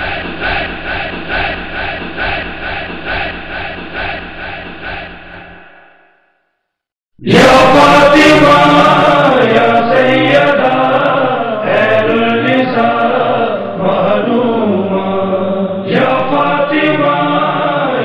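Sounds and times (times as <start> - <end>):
voices chanting a mourning lament: 0.0 - 6.0, 7.2 - 18.0.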